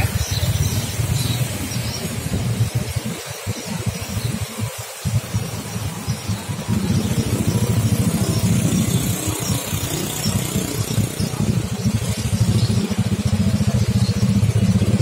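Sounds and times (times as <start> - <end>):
truck engine chugging: 0.0 - 15.0.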